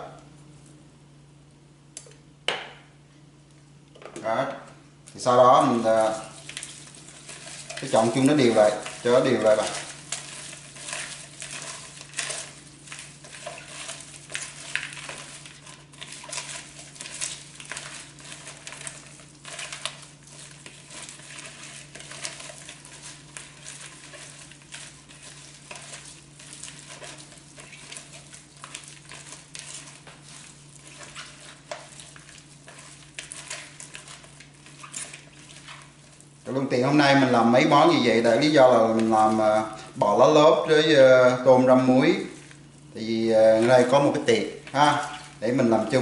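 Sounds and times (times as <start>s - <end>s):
steady low hum: 0.0s - 46.0s
shrimp crackling and rustling in bowl: 5.1s - 40.0s, 40.6s - 46.0s.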